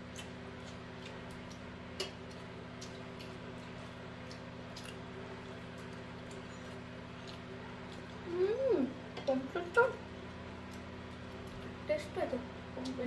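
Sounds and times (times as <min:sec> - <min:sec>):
eating with fingers from plates: 0:00.0 - 0:13.0
low room hum: 0:00.0 - 0:13.0.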